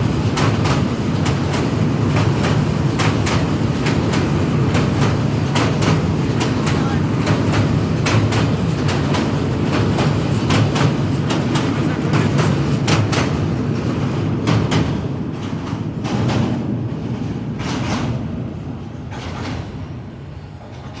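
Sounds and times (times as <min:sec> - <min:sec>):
train rumbling over bridge: 0:00.0 - 0:21.0
train wheels clacking on rail joints: 0:00.0 - 0:21.0.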